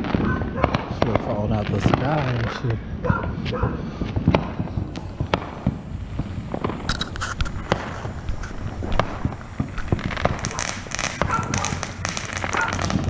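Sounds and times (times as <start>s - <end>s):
fireworks crackling: 0.0s - 13.0s
fireworks popping and banging: 0.0s - 13.0s.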